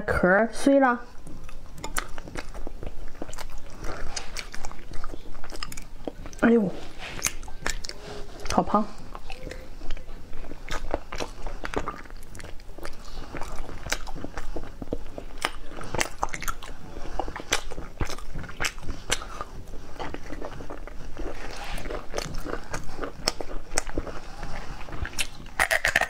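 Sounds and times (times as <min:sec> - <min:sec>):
wet biting and chewing: 0:01.2 - 0:26.0.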